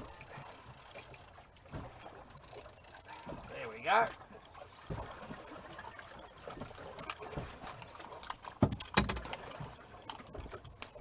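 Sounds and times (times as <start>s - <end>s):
knocks and clatter on boat: 0.0s - 11.0s
water lapping around hull: 0.0s - 11.0s.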